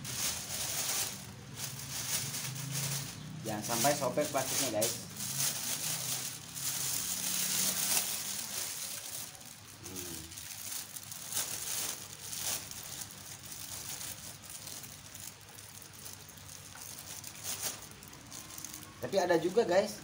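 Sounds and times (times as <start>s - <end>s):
plastic bag rustling: 0.0s - 20.0s.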